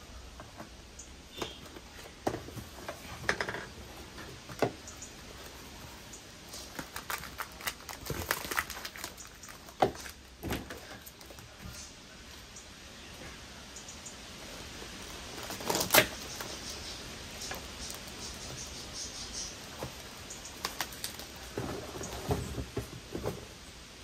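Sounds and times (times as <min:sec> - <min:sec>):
packaging rustling and crinkling: 0:01.5 - 0:11.8, 0:14.4 - 0:23.6.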